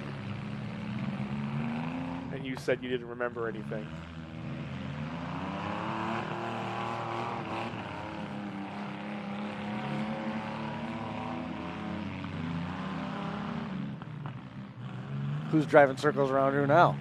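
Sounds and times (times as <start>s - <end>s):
vehicle engines revving: 0.0s - 17.0s.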